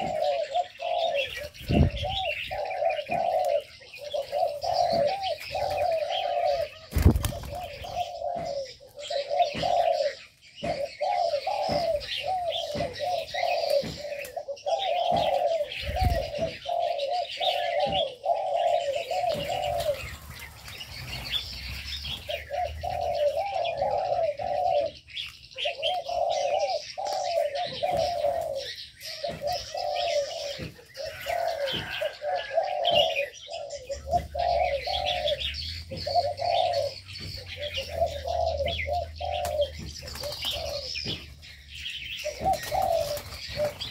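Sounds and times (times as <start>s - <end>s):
doves cooing: 0.0s - 43.9s
small birds chirping: 0.0s - 43.9s.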